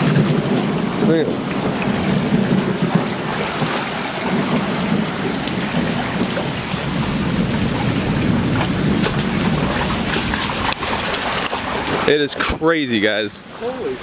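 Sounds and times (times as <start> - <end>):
floodwater rushing: 0.0 - 14.0
heavy rain: 0.0 - 14.0.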